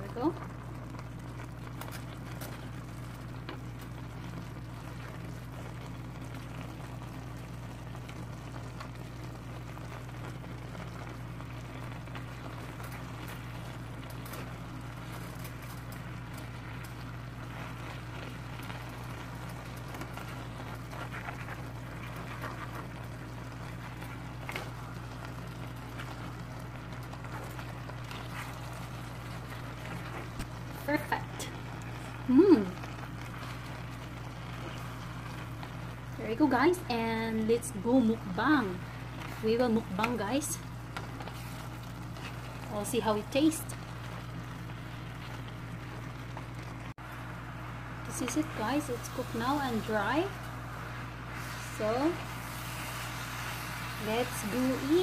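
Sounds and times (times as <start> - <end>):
food bubbling and hissing in pan: 0.0 - 55.0
steady low hum: 0.0 - 55.0.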